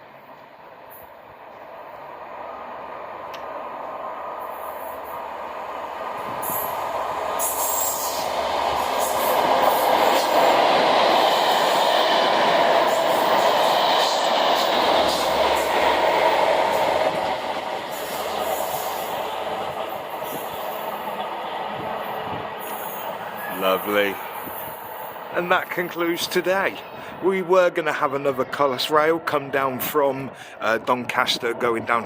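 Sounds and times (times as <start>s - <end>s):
train passing: 0.0s - 32.0s.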